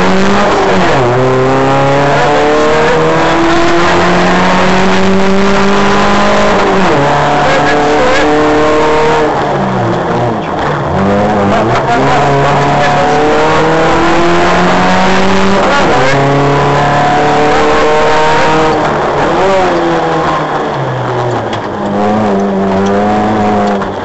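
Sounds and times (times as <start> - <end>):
car engine accelerating through gears: 0.0 - 24.0.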